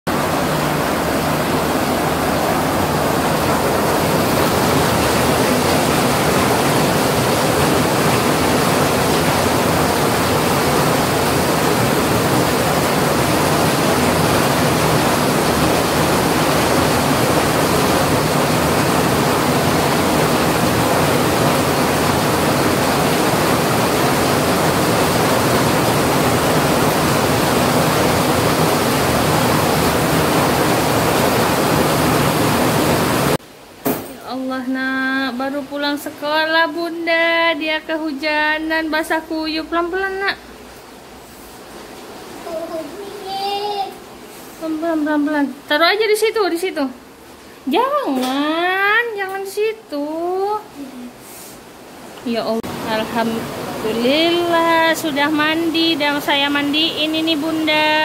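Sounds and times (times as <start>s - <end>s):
heavy rain pouring: 0.1s - 33.8s, 35.3s - 45.8s, 46.5s - 58.0s.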